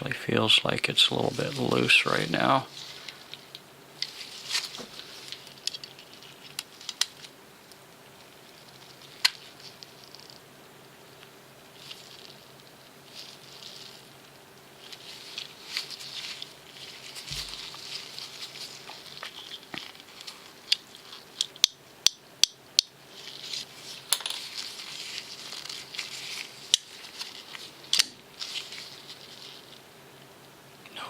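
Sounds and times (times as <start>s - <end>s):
rustling handling noise: 0.0s - 21.7s, 22.9s - 30.5s.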